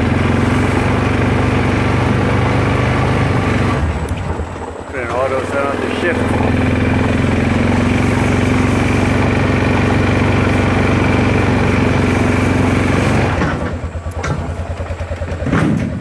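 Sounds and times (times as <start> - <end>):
atv engine running hard: 0.0 - 16.0.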